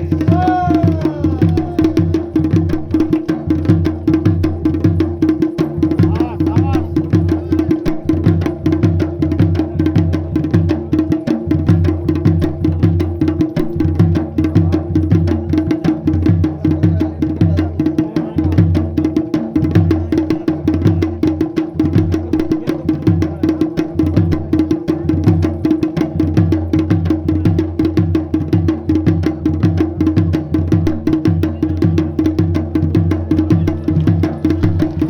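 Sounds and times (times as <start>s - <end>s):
drums in a fast beat: 0.0s - 35.0s.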